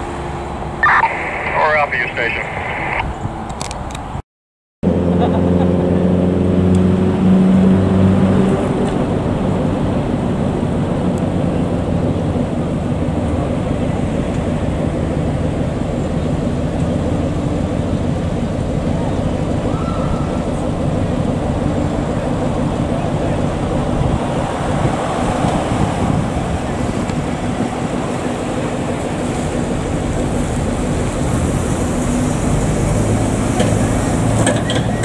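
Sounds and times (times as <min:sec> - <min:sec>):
steady pitched engine hum: 0:00.0 - 0:03.3, 0:04.8 - 0:35.0
passing traffic: 0:00.0 - 0:04.2, 0:04.8 - 0:35.0
truck engine and road noise: 0:00.0 - 0:04.2, 0:04.8 - 0:35.0.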